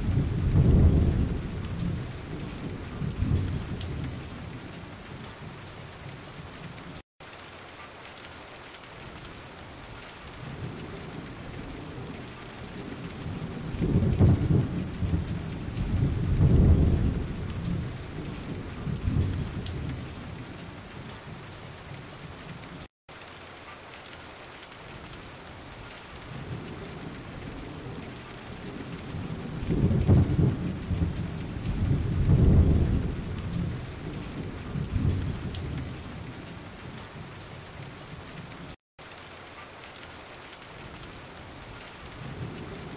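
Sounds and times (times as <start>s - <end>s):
rain falling on water: 0.0s - 42.9s.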